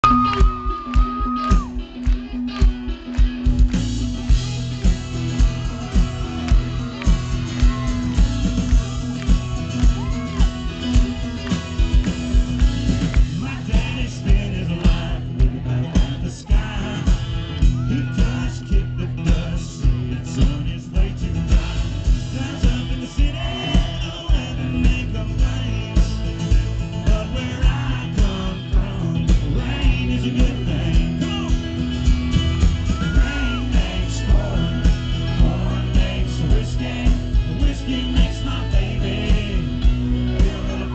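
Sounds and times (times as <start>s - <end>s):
live country band playing: 0.0s - 40.9s.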